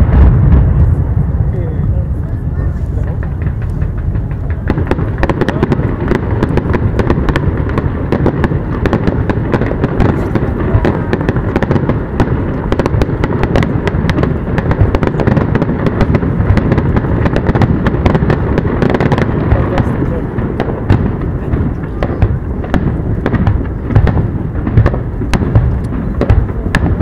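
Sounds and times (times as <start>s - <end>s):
fireworks bursting in sharp bangs: 0.0s - 27.0s.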